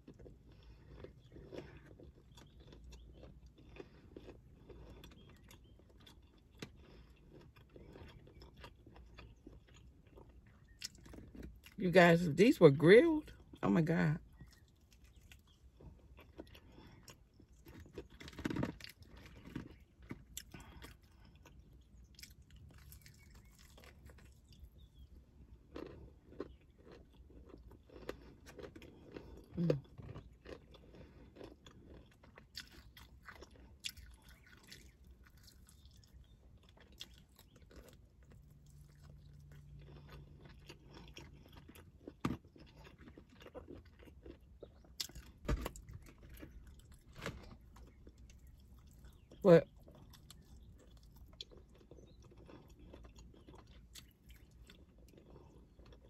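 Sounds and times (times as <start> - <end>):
crunchy biting: 0.0 - 11.7, 14.4 - 56.0
wet chewing: 0.0 - 12.5, 14.2 - 56.0.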